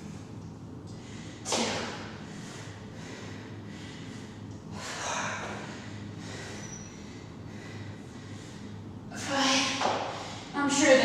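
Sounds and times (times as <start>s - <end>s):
woman breathing hard: 0.0s - 10.6s
low steady hum: 0.0s - 11.0s.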